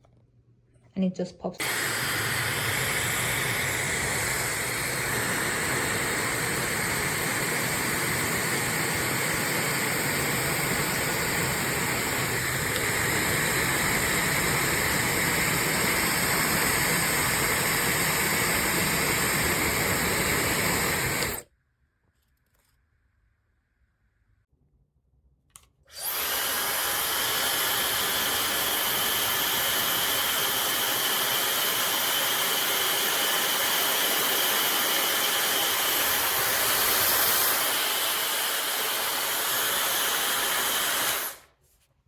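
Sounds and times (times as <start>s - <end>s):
hair dryer running: 1.6s - 21.5s, 25.9s - 41.5s.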